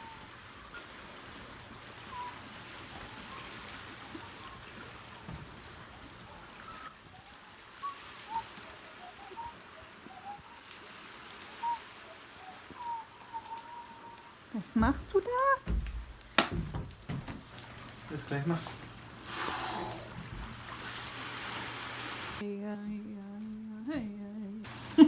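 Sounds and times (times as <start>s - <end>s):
soft steady hiss: 0.0s - 25.0s.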